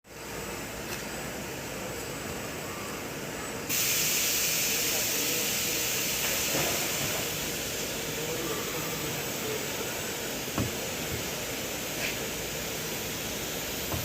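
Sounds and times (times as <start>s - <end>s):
factory machinery hiss and hum: 0.1s - 14.0s.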